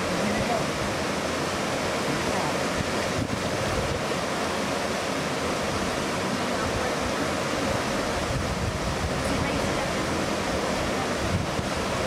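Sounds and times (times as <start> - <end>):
wind buffeting microphone: 0.0 - 4.8, 5.6 - 12.0
water rushing: 0.0 - 12.0.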